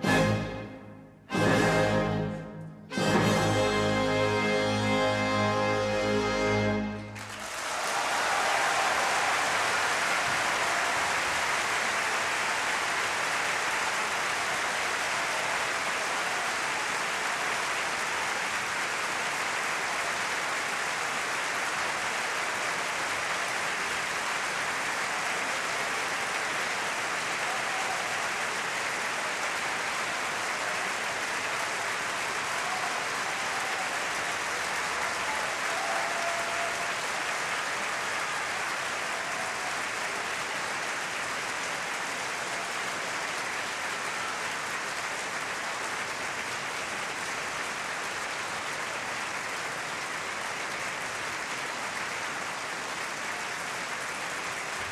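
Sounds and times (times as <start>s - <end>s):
audience applauding: 2.9s - 54.9s.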